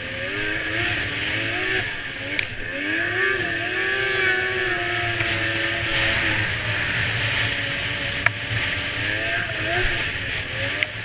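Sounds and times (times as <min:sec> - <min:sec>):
snowmobile engine running: 0:00.0 - 0:11.0
track and snow hiss: 0:00.0 - 0:11.0.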